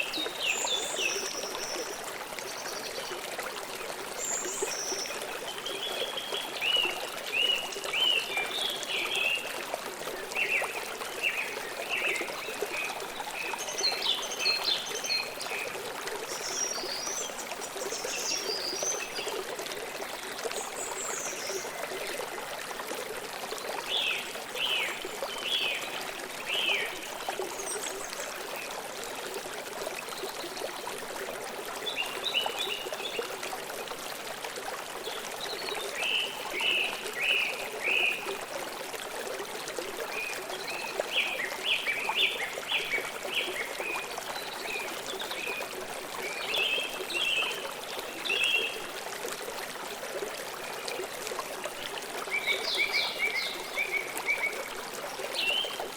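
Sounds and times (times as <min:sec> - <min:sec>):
stream trickling: 0:00.0 - 0:55.9.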